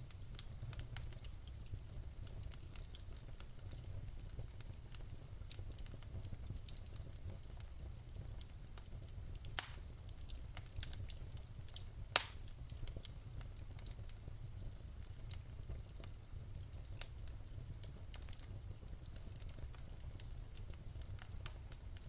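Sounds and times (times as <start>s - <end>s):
low rumble of flames: 0.0s - 22.0s
wood fire popping and snapping: 0.0s - 22.0s.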